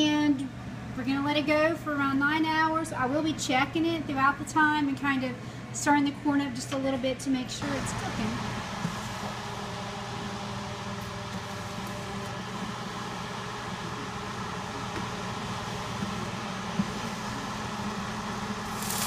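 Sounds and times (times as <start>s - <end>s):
dehydrator fan humming: 0.0s - 19.0s.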